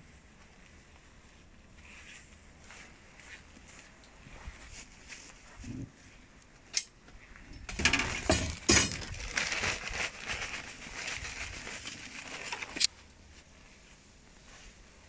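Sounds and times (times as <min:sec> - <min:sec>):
burning straw crackling and rustling: 0:00.0 - 0:15.0.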